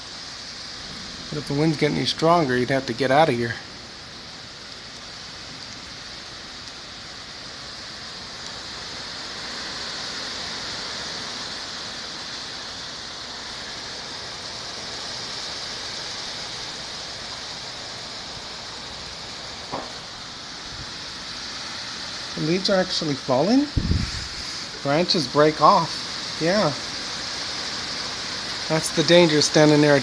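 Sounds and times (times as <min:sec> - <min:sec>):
wind rushing through trees: 0:00.0 - 0:30.0.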